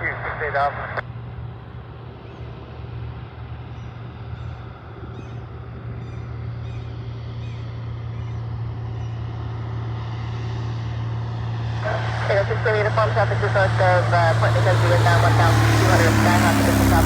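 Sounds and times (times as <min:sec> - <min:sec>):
propeller aircraft engine: 0:00.0 - 0:17.0.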